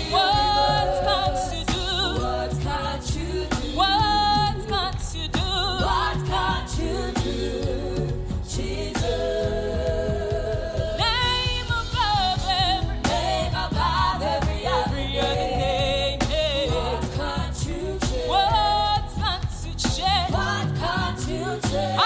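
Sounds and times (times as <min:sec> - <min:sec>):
backing voices: 0:00.0 - 0:04.7, 0:05.6 - 0:19.2
band with bass and drums: 0:00.0 - 0:22.0
person singing with vibrato: 0:00.0 - 0:22.0.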